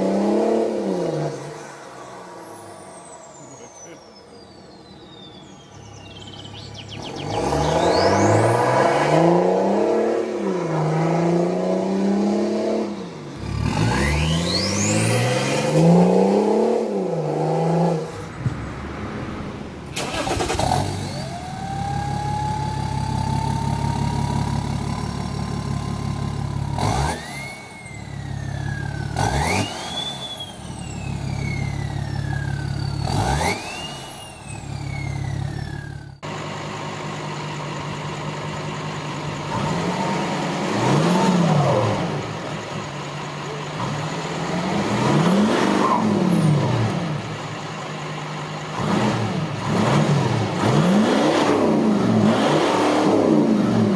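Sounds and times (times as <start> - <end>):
diesel engine free-revving: 6.8 - 18.3, 19.9 - 53.9
diesel engine revving: 6.8 - 18.4, 19.2 - 53.9.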